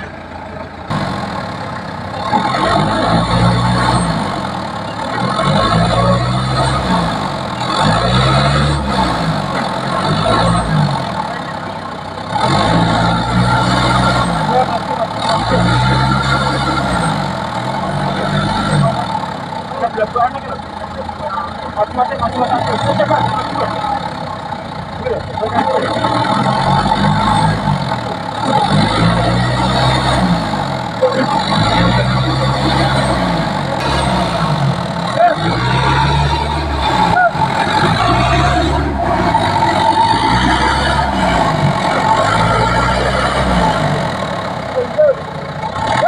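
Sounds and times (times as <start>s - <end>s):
machine engine revving: 0.0s - 46.0s.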